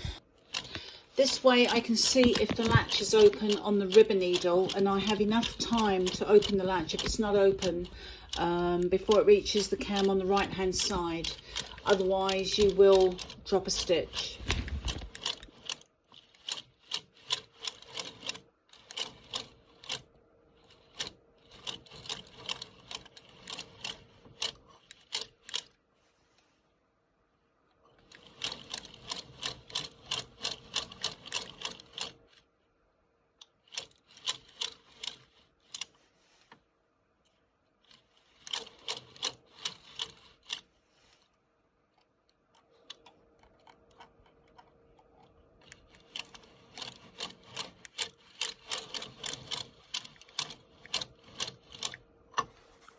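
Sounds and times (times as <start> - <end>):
knitting machine needles clicking: 0.0 - 25.8, 27.8 - 32.5, 33.4 - 36.6, 37.3 - 41.3, 42.0 - 52.6.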